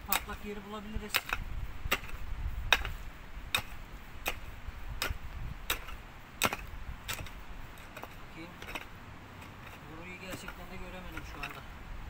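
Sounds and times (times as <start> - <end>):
digging tool striking stony ground: 0.0 - 11.6.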